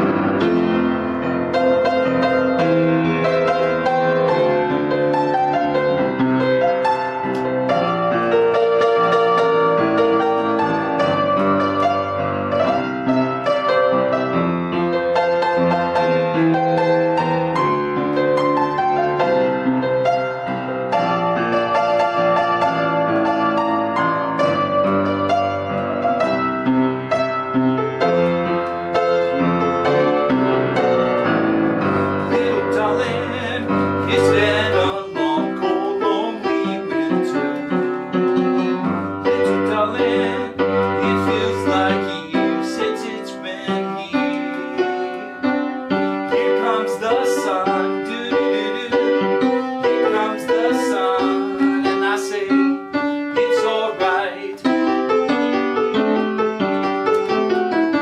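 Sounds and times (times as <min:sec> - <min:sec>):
solo piano piece: 0:00.0 - 0:58.0.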